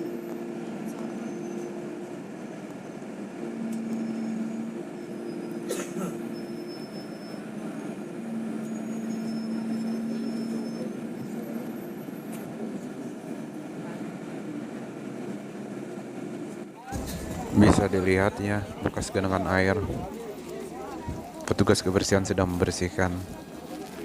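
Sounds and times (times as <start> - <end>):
bus engine hum: 0.0 - 24.0
road noise: 0.0 - 24.0.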